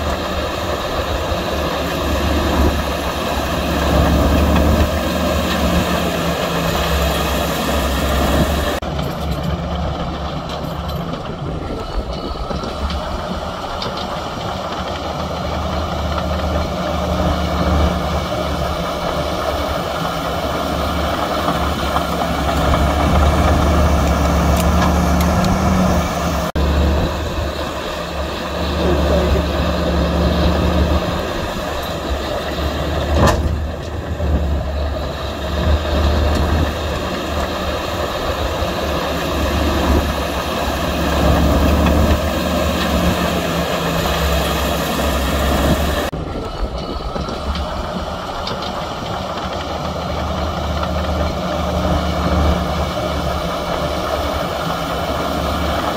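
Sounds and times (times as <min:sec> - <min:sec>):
heavy machinery diesel engines droning: 0:00.0 - 0:55.9.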